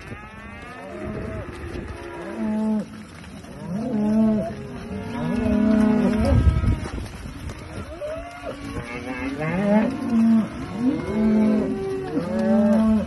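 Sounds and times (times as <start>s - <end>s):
cattle mooing: 0.0s - 13.0s.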